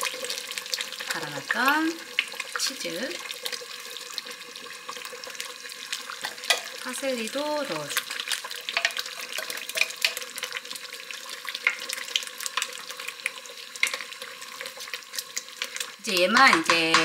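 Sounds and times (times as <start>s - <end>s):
sauce simmering and popping: 0.0s - 17.0s.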